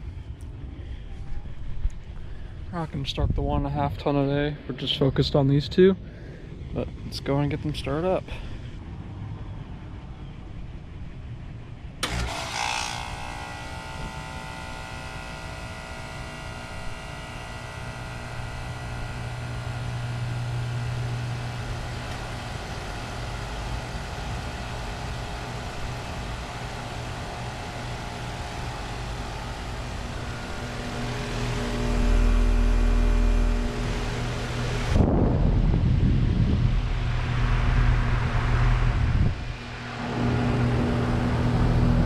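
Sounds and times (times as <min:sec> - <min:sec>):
low rumble: 0:00.0 - 0:12.0, 0:17.7 - 0:42.0
heat pump compressor humming: 0:00.0 - 0:42.0.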